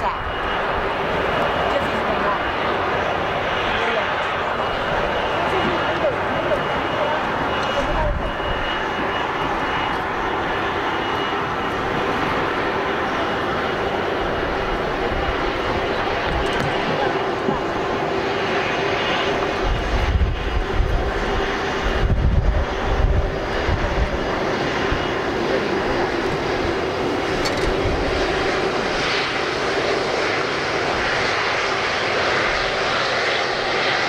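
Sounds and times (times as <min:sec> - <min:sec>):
jet engines whining: 0:00.0 - 0:34.0
low rumbling gusts: 0:00.0 - 0:34.0.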